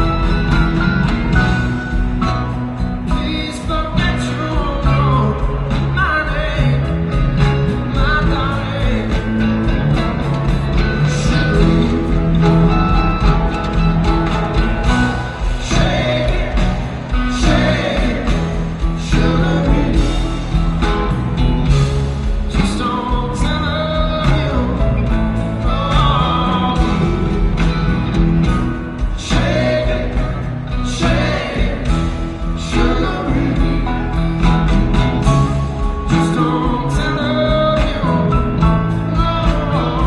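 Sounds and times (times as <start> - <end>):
song with singing and steady beat: 0.0 - 40.0.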